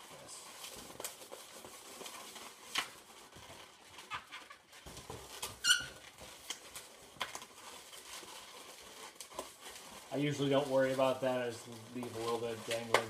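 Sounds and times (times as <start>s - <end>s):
balloon squeaking and rubbing: 0.0s - 13.0s.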